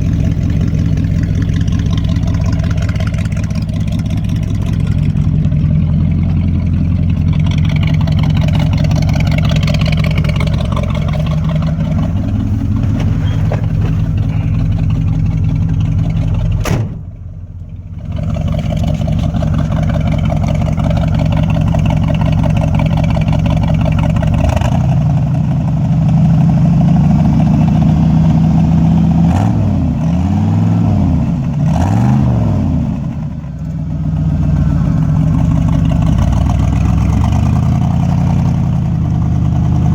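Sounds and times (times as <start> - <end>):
engine revving: 0.0 - 17.2, 17.9 - 39.9
engine running: 0.0 - 39.9.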